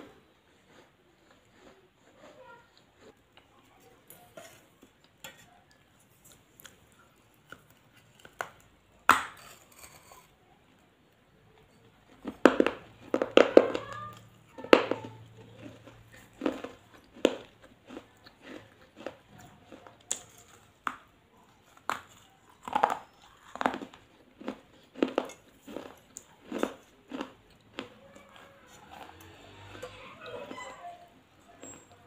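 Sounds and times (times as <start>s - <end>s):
person chewing crunchy food: 0.0s - 10.4s, 11.6s - 32.0s.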